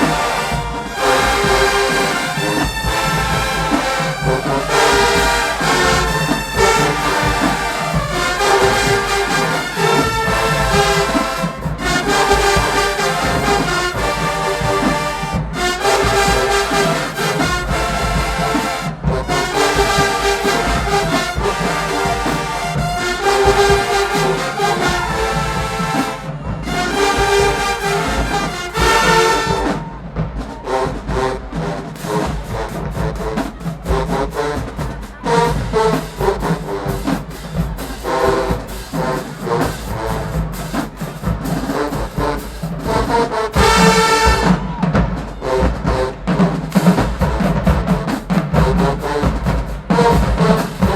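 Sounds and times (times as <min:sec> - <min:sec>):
marching band playing: 0:00.0 - 0:50.9
trombones and trumpets: 0:00.0 - 0:50.9.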